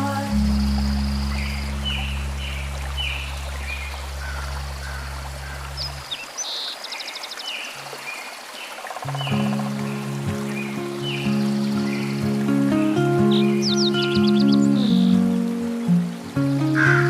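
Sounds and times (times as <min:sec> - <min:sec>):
low held music chord: 0:00.0 - 0:06.0, 0:09.2 - 0:17.0
soft music notes: 0:00.0 - 0:06.0, 0:09.1 - 0:17.0
flowing stream water: 0:00.0 - 0:17.0
songbirds chirping: 0:00.0 - 0:17.0.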